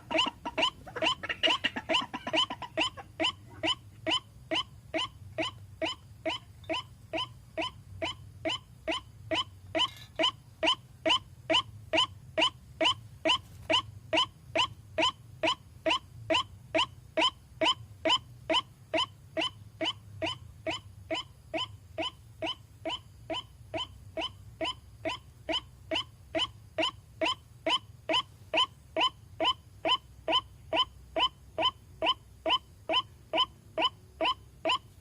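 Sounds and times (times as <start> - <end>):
waterhen upward-sweeping calls: 0.0 - 35.0.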